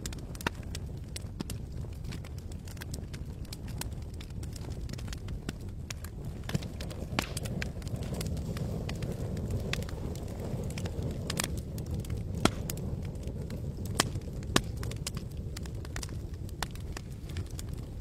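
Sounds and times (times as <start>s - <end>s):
campfire crackling and popping: 0.0s - 18.0s
low steady fire rush: 0.0s - 18.0s.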